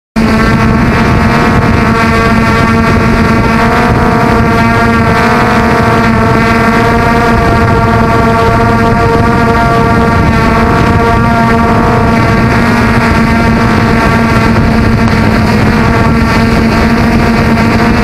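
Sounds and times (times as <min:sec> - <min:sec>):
pump engine running at high speed: 0:00.2 - 0:18.0
wind noise on microphone: 0:00.2 - 0:18.0.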